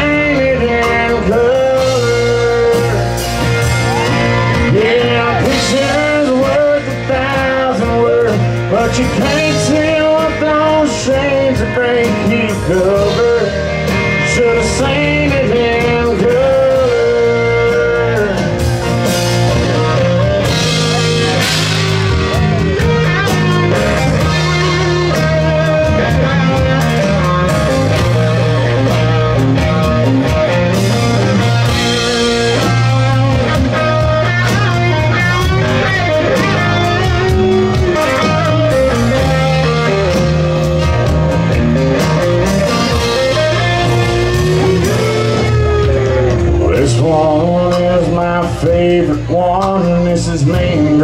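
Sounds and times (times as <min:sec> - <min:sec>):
live band instrumental: 0:00.0 - 0:51.0.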